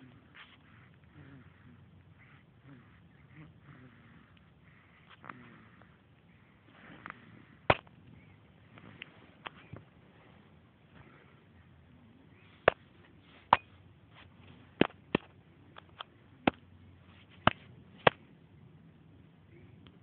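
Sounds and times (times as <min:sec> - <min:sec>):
faint low hiss: 0:00.0 - 0:20.0.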